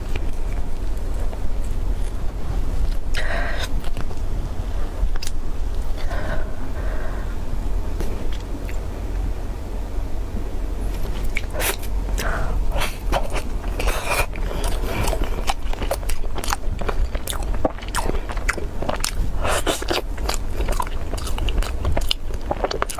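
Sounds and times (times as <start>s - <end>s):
crunchy biting and chewing: 0.0s - 8.9s, 10.8s - 22.9s
low hum: 0.0s - 22.9s.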